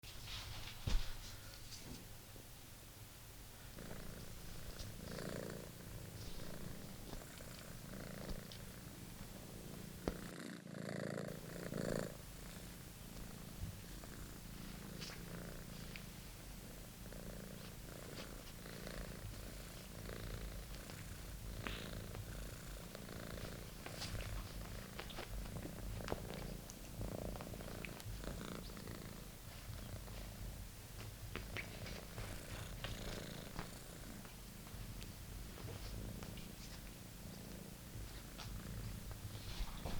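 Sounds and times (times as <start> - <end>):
kitten purring: 3.6 - 39.9.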